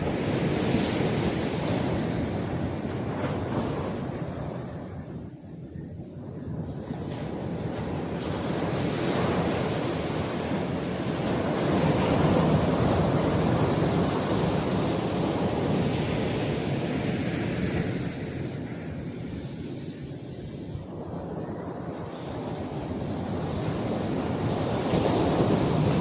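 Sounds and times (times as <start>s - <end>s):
sea surf washing ashore: 0.0s - 26.0s
wind on microphone: 0.0s - 26.0s.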